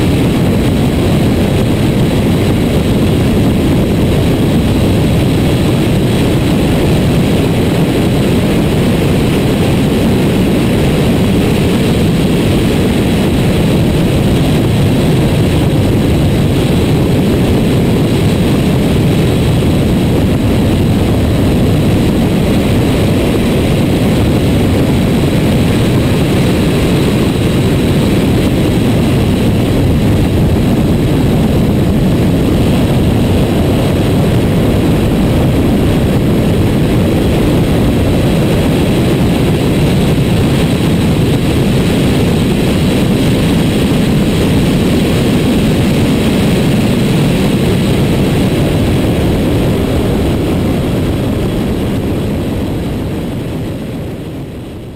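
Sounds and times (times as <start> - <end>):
wind and tyre noise: 0.0 - 54.9.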